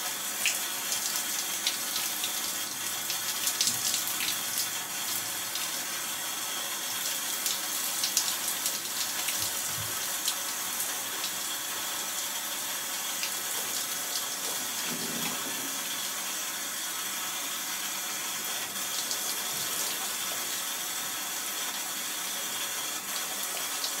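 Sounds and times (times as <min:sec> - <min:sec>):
shower head spraying water: 0:00.0 - 0:24.0.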